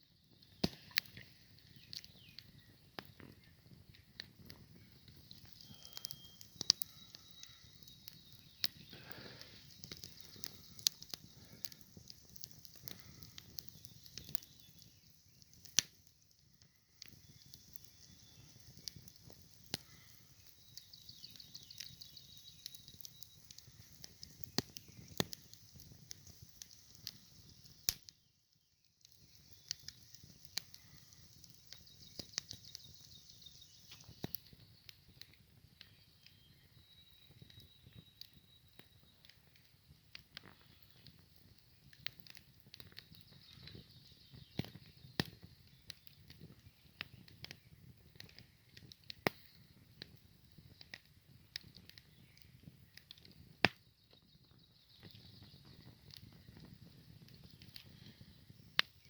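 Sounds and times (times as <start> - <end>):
campfire crackling: 0.0 - 59.0
sharp pops of fire: 0.0 - 59.0.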